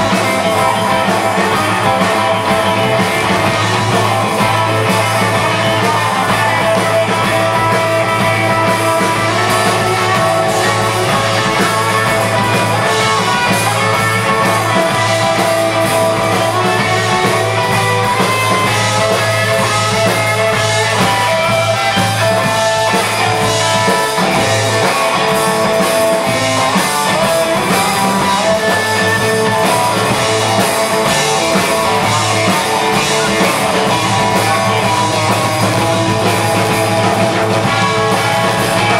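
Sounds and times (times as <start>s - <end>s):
drum kit: 0.0s - 38.9s
electric bass guitar: 0.0s - 38.9s
electric guitar: 0.0s - 38.9s.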